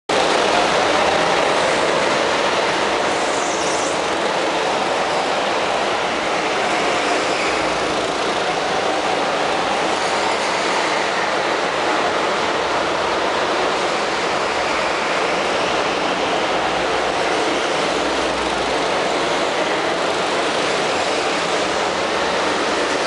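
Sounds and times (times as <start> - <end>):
go-kart motors droning: 0.1 - 23.0.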